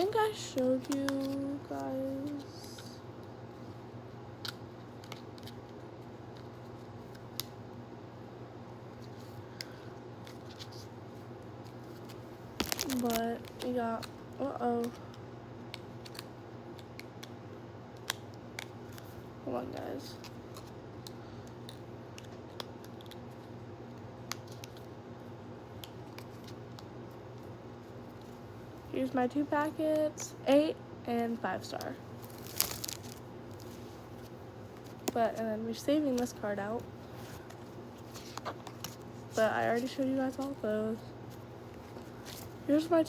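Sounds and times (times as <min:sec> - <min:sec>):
merchandise and packaging clicking: 0:00.0 - 0:07.8, 0:08.9 - 0:43.0
steady low hum: 0:00.0 - 0:43.0.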